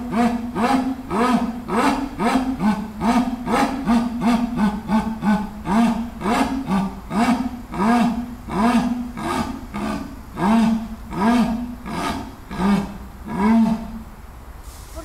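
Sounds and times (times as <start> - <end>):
jaguar sawing call: 0.0 - 14.1.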